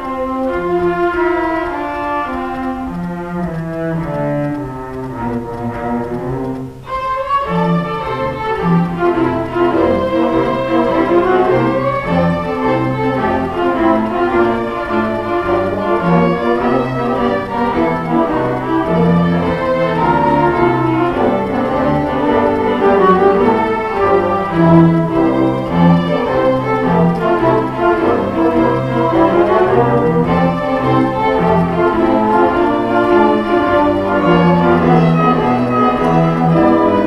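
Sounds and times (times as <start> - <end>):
string orchestra playing: 0.0 - 37.0.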